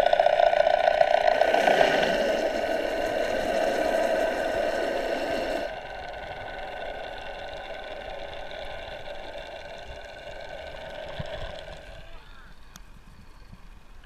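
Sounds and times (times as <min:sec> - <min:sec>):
boat engine hum underwater: 0:00.0 - 0:14.0.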